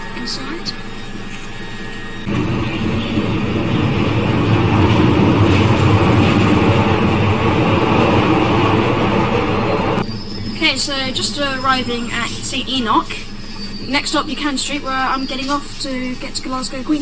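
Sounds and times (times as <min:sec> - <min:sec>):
subway train rumbling in tunnel: 0:00.0 - 0:17.0.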